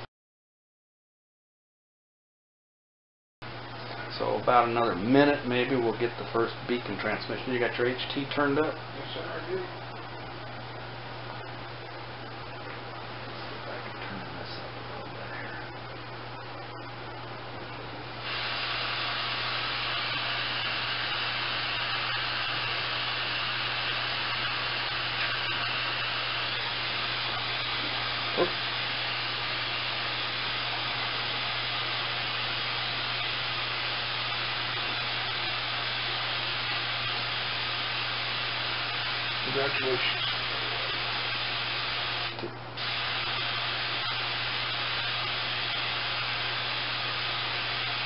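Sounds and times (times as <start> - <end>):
radio static hiss: 4.0 - 48.0.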